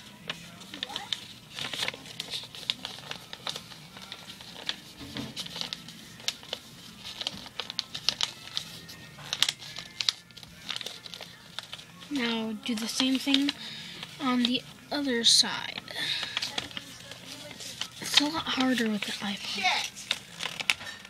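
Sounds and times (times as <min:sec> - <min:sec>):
paper folding and crinkling: 0:00.0 - 0:21.0.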